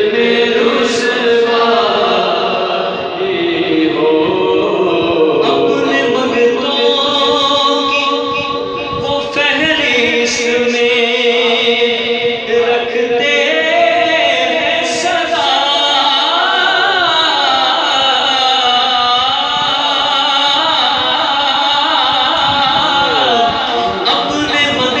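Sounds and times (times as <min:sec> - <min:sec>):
man singing into microphone: 0:00.0 - 0:25.0.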